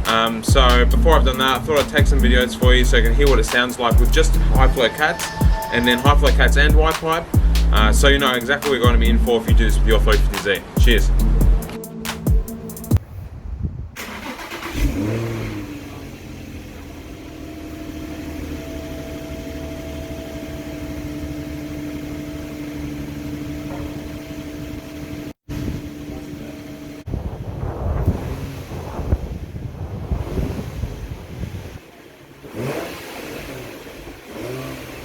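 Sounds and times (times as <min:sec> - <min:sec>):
car engine starting and idling: 0:00.0 - 0:13.0, 0:13.9 - 0:35.0.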